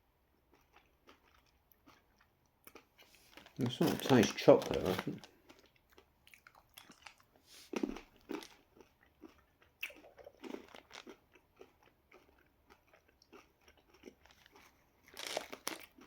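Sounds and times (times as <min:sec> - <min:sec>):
person chewing: 0:00.5 - 0:16.0.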